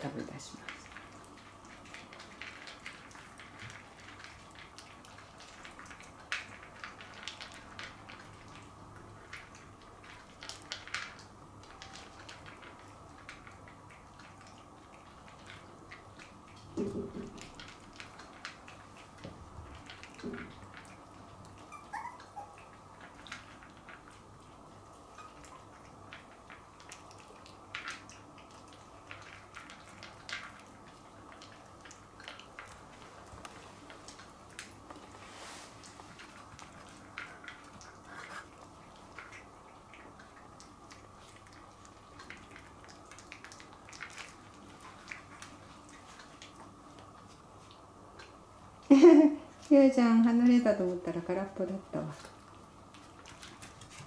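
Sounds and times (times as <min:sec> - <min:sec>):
puppies crunching dry kibble: 0:00.0 - 0:54.0.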